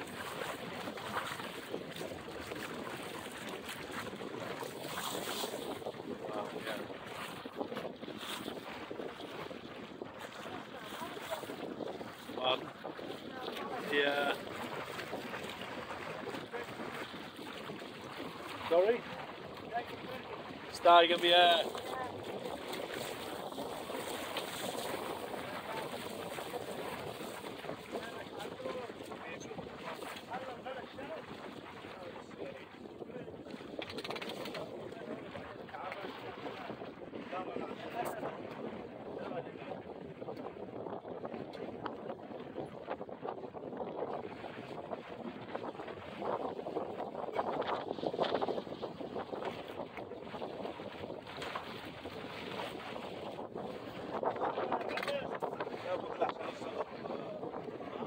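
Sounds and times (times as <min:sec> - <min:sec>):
water splashing against hull: 0:00.0 - 0:58.0
wind on microphone: 0:00.0 - 0:58.0.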